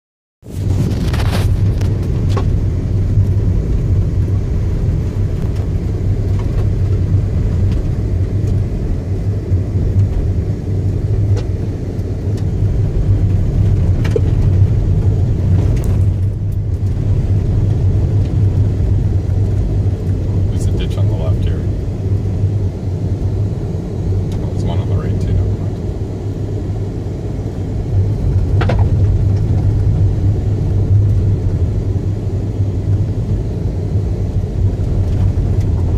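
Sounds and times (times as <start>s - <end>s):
car engine and tyre rumble: 0.4s - 35.9s.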